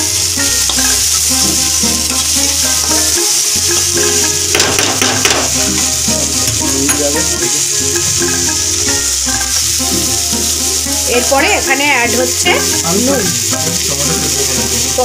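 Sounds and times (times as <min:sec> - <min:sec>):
background music: 0:00.0 - 0:15.0
vegetables sizzling in a pan: 0:00.0 - 0:15.0.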